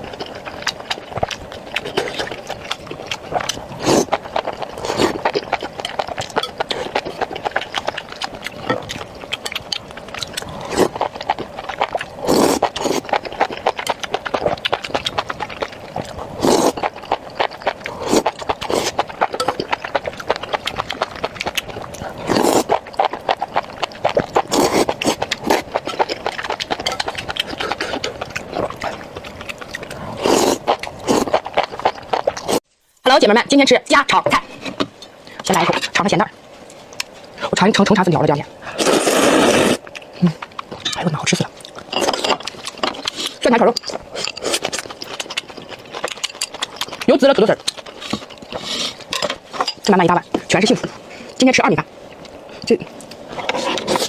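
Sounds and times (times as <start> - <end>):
person chewing and slurping: 0.0 - 32.6, 38.6 - 51.4, 52.1 - 54.0.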